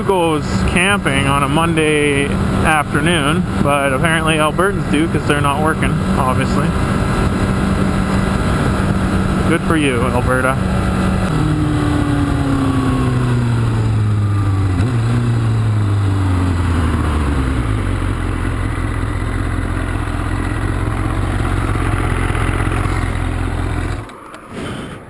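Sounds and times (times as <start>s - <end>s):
motorcycle engine slowing and idling: 0.0s - 25.0s.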